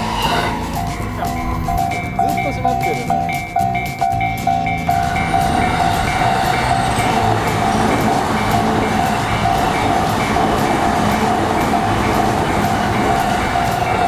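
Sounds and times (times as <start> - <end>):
level crossing bell dinging: 0.0 - 14.0
train wheels rumbling over rails: 0.0 - 14.0.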